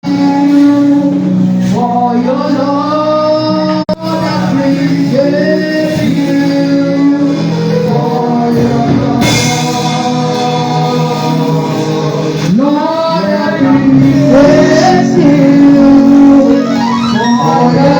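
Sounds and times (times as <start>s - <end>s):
gospel singing with accompaniment: 0.0s - 17.9s.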